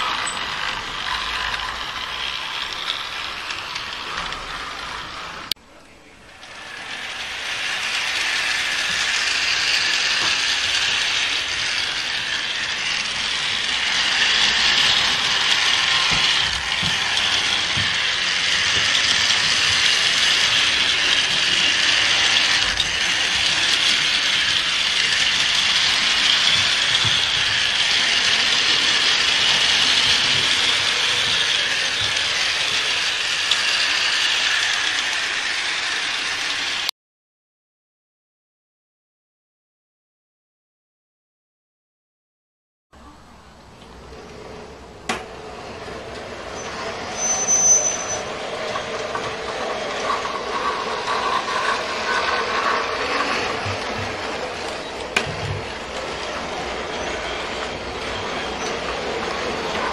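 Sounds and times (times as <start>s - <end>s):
model handcar motor whirring: 0.0s - 5.5s, 6.4s - 36.9s, 43.9s - 59.9s.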